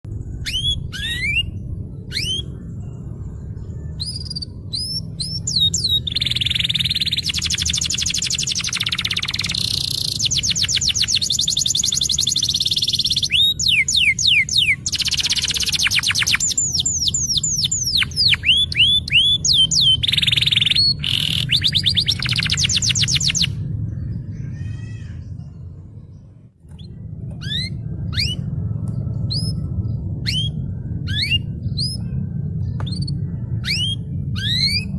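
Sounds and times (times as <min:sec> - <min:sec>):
steady low hum: 0:00.0 - 0:34.9
canary singing with fast trills: 0:00.1 - 0:34.9.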